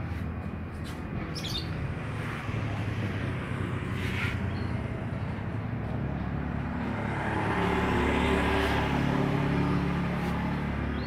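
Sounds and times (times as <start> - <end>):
vehicle engine passing: 1.2 - 11.0.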